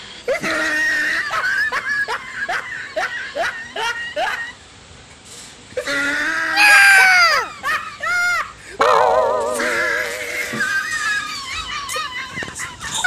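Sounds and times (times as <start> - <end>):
high-pitched snickering laugh: 0.3 - 4.6, 5.8 - 13.0.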